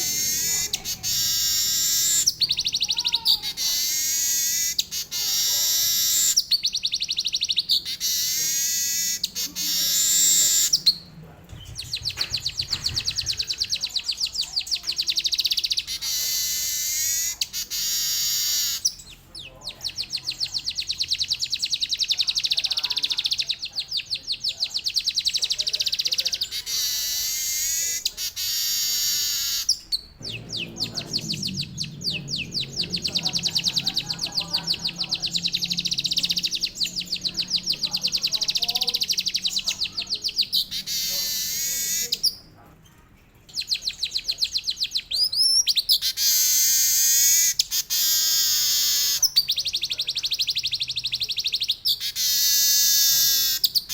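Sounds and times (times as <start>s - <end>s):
bird singing rolling trills: 0.0s - 42.6s, 43.4s - 53.9s.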